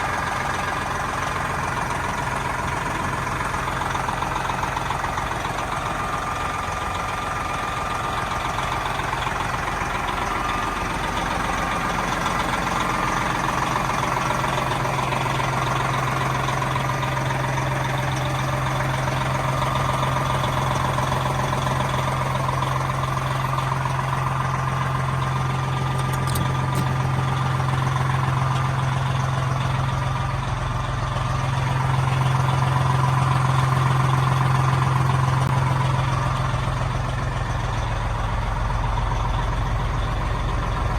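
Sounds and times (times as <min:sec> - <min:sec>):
truck diesel engine droning: 0:00.0 - 0:40.9.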